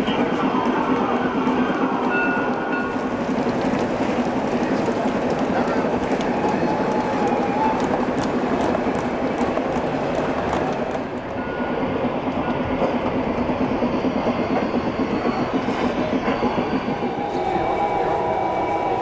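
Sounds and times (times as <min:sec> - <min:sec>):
model trains rolling rumble: 0:00.0 - 0:19.0.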